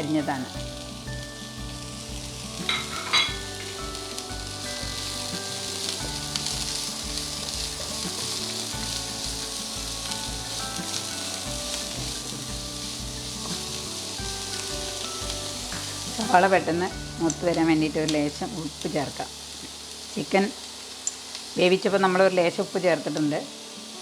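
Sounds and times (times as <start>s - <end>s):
onions sizzling in a frying pan: 0.0s - 24.0s.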